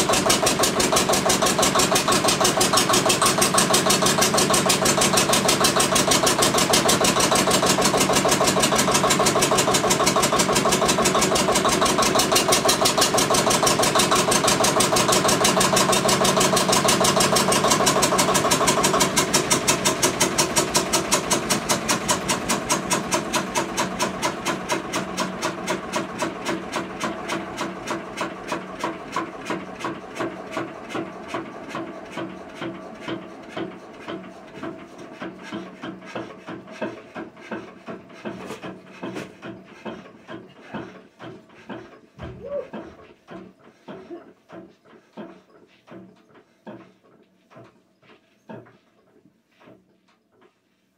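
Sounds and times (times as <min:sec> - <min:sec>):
diesel generator engine running: 0:00.0 - 0:44.6.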